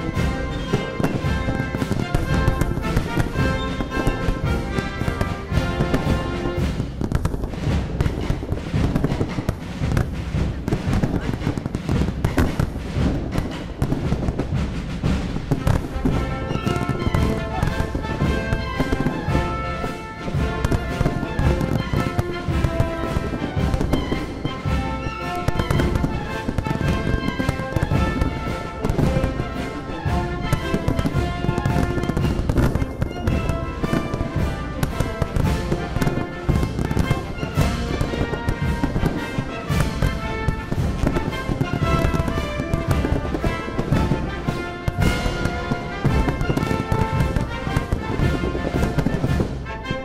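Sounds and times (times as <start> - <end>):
fireworks bangs and crackle: 0.0 - 50.0
music with held notes: 0.0 - 50.0.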